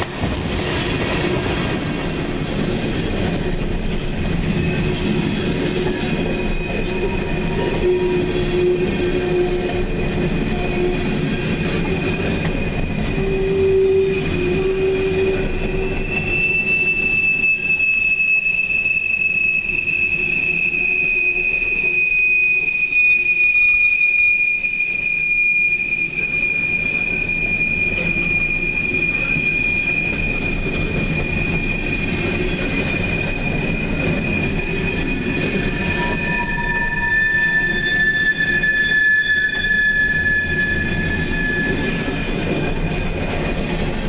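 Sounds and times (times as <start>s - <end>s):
low rumble of passing rail cars: 0.0s - 44.0s
steel wheels squealing: 0.0s - 44.0s.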